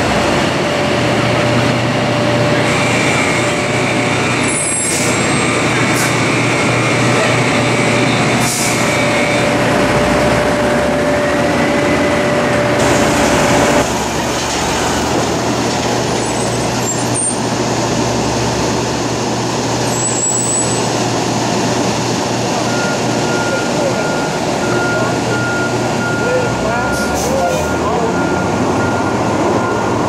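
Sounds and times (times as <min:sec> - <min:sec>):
container crane machinery running: 0:00.0 - 0:30.0
steady machinery whine: 0:00.0 - 0:30.0.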